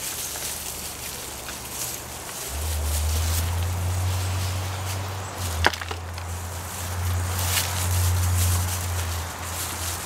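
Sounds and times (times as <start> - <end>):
hands digging in damp soil: 0.0 - 10.0.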